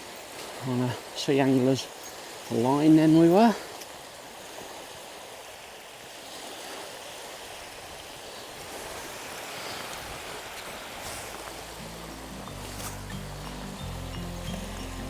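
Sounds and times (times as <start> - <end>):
sea surf on sandy beach: 0.0 - 15.0.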